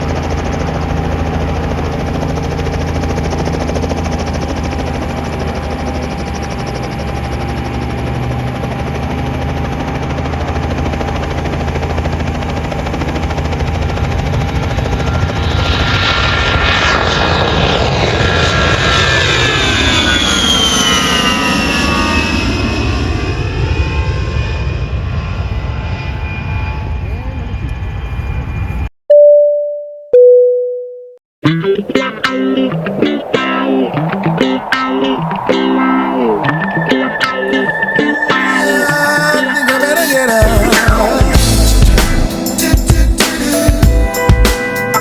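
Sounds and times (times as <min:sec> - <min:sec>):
aircraft engine running: 0:00.0 - 0:28.9, 0:31.4 - 0:45.0
aircraft passing low: 0:00.0 - 0:28.9, 0:31.5 - 0:45.0.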